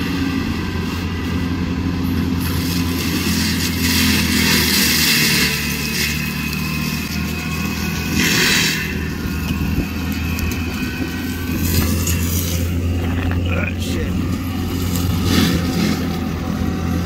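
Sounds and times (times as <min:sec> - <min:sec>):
diesel engine running under load: 0:00.0 - 0:17.0
mulcher head working: 0:00.0 - 0:17.0.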